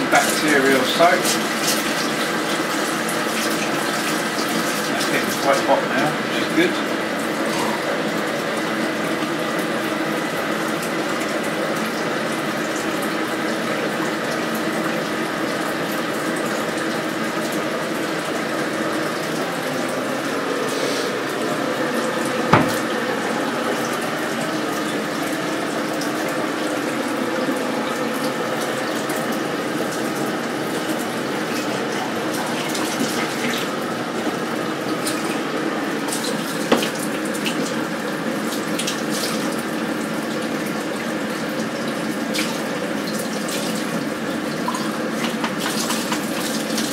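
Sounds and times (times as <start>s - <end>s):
tap water running into sink: 0.0s - 46.9s.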